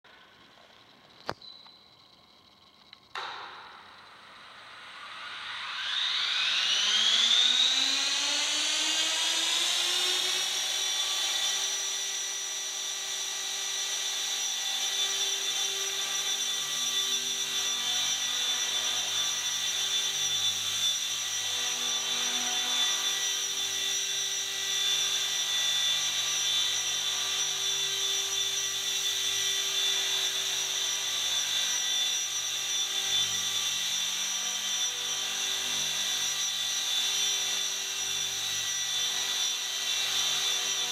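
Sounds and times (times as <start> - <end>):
rc helicopter rotor whine: 0.1 - 40.9.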